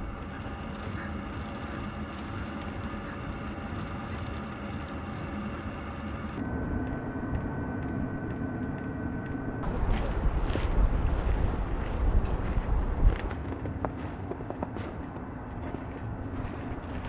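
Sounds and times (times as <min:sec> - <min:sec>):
machine drone with hum tones: 0:00.0 - 0:17.0.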